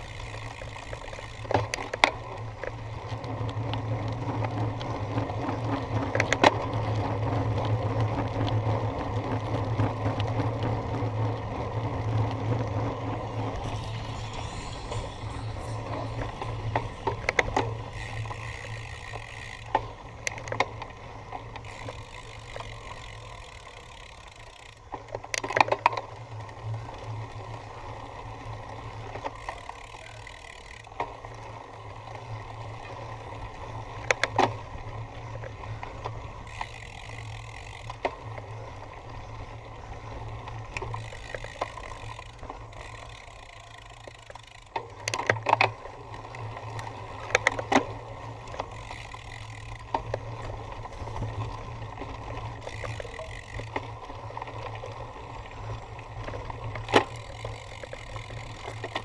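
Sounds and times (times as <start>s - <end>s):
bike rattling and knocking: 0.0s - 59.0s
bike rumbling over rough ground: 0.0s - 59.0s.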